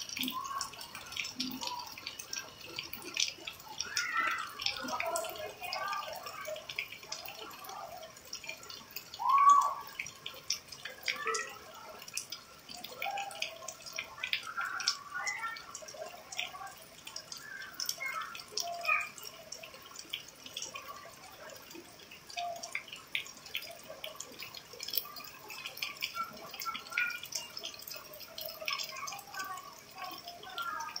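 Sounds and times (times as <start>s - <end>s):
rain pattering on paving: 0.0s - 31.0s.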